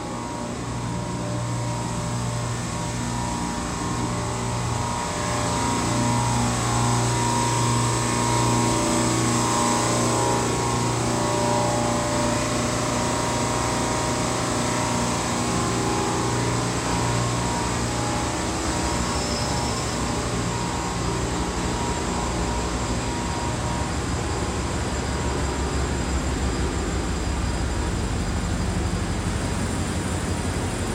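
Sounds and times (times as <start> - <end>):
engine room machinery drone: 0.0 - 30.9.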